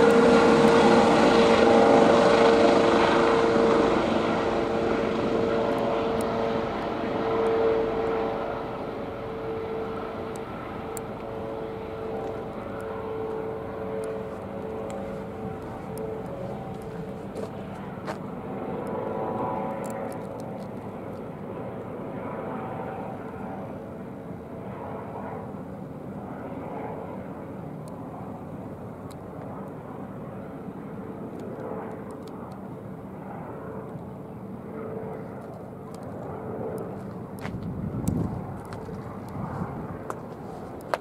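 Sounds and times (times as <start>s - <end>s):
helicopter engine and rotor noise: 0.0s - 41.0s.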